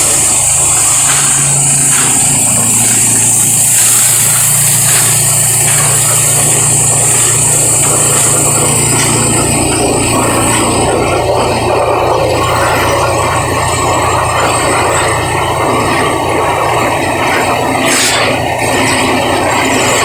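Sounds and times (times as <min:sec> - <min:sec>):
plastic grinding machine running: 0:00.0 - 0:20.0.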